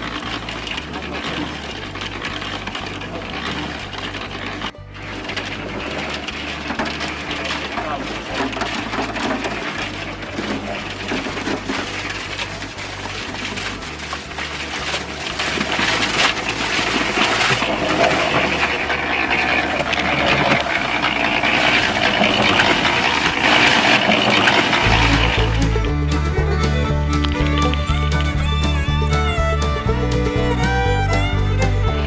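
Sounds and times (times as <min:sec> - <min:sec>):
toy concrete mixer motor whirring: 0:00.0 - 0:12.8, 0:13.4 - 0:32.0.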